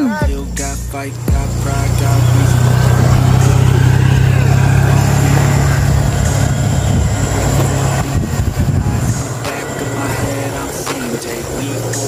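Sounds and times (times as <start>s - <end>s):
road noise: 0.0s - 12.0s
motor scooter engine passing: 0.6s - 12.0s.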